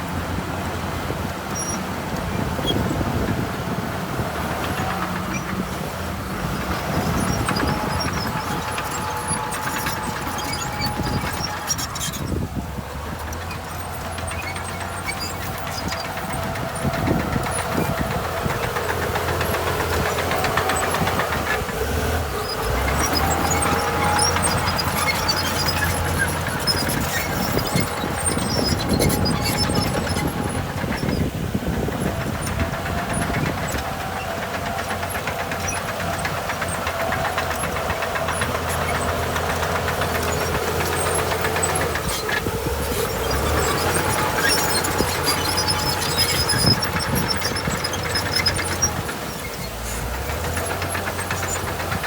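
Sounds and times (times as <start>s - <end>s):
diesel earthmoving machinery running: 0.0s - 52.0s.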